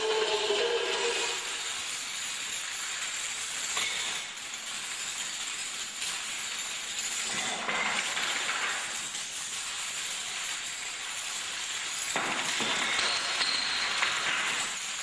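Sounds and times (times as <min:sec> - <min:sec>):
dominoes toppling clatter: 0:01.3 - 0:15.0.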